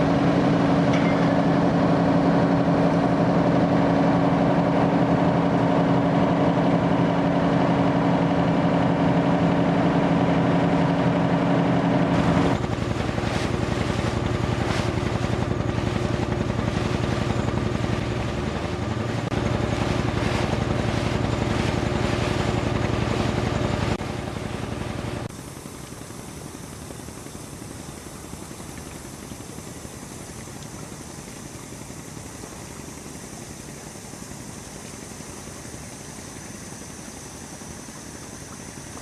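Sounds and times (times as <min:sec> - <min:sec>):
construction machinery engines running: 0:00.0 - 0:39.0.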